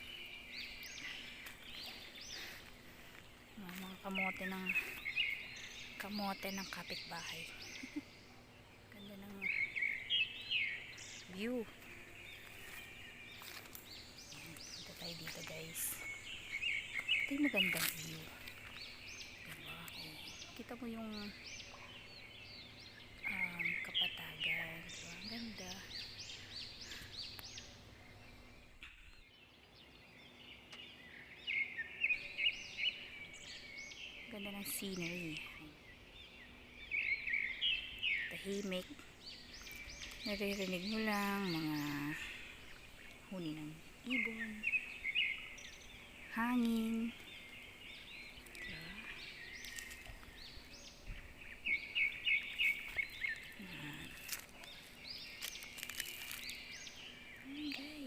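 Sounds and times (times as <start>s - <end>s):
birds chirping: 0.0s - 58.0s
steady outdoor hiss: 0.0s - 58.0s.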